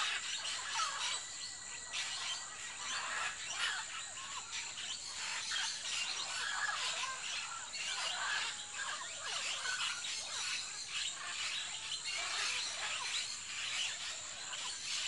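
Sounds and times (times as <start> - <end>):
parrots squawking and screeching: 0.0 - 15.0.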